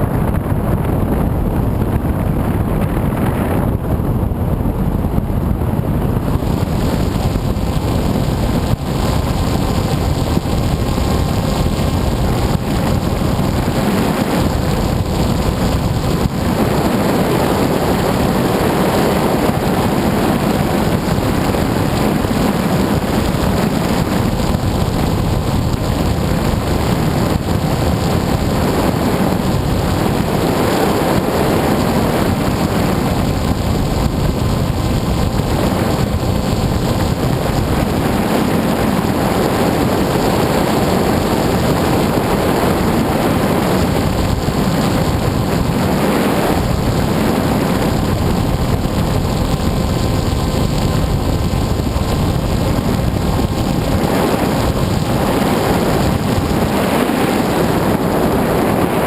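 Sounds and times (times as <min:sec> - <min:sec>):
motor hum: 0:00.0 - 0:59.0
wind rushing over microphone: 0:00.0 - 0:59.0.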